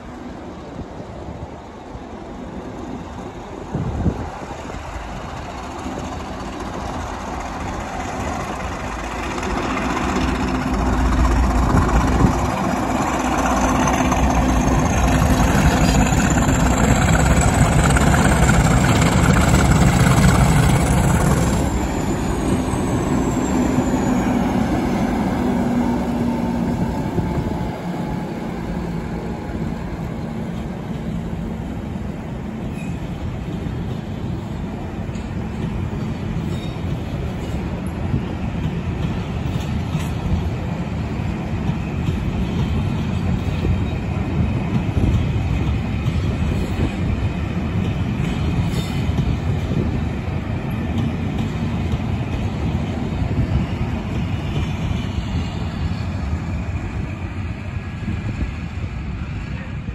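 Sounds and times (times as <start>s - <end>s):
diesel locomotives engine noise: 0.0s - 59.9s.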